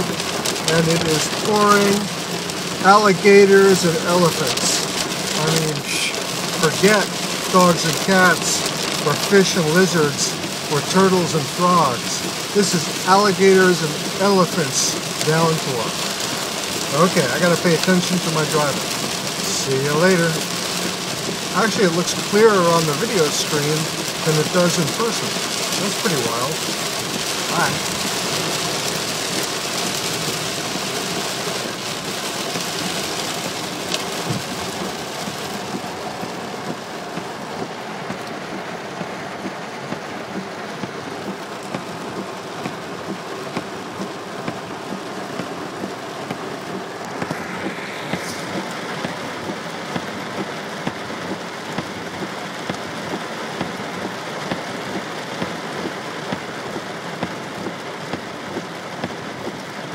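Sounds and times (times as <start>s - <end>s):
heavy rain on a car roof: 0.0s - 59.9s.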